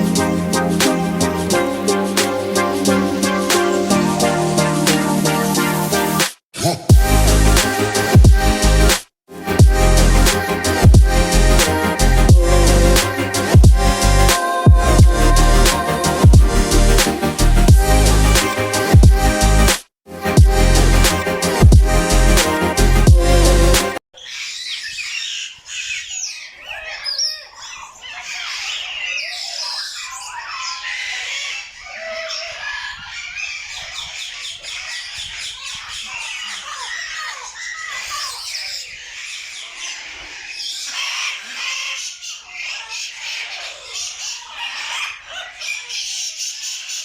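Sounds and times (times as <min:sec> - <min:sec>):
flock of birds chirping: 0:07.0 - 0:47.0.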